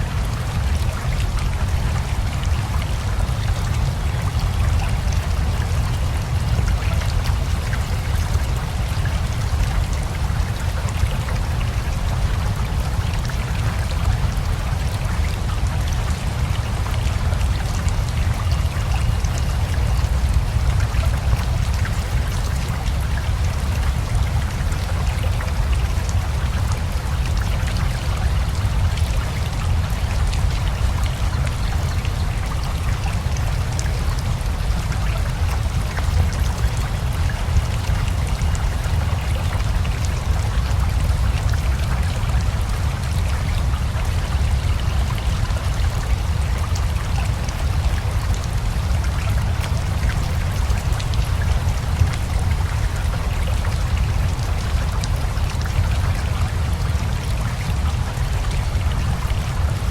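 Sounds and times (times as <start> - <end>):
river flowing: 0.0 - 59.9
steady rain: 0.0 - 59.9.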